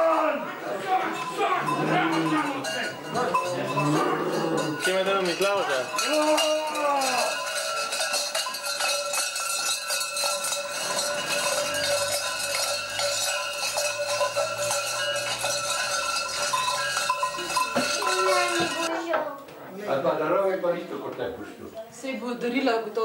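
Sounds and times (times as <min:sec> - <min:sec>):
cowbells clanging: 0:00.0 - 0:18.9.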